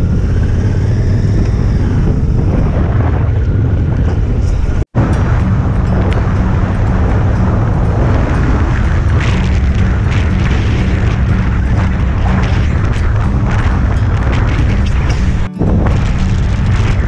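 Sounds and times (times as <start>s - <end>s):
engine running hard: 0.0s - 17.0s.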